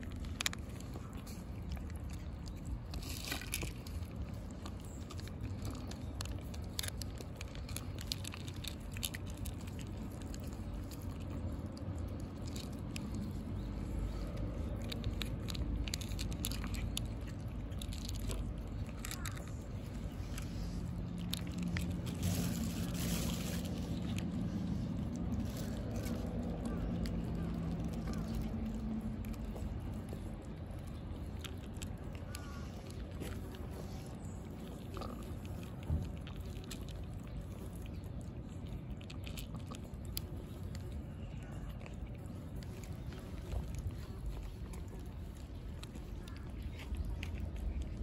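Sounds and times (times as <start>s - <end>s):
cats crunching kibble: 0.0s - 48.0s
low steady rumble: 0.0s - 48.0s
wet chewing: 0.0s - 48.0s.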